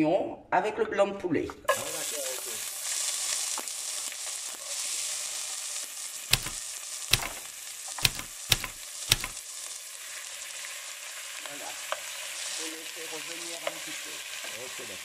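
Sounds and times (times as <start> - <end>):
onion sizzling in hot oil: 1.7 - 15.0.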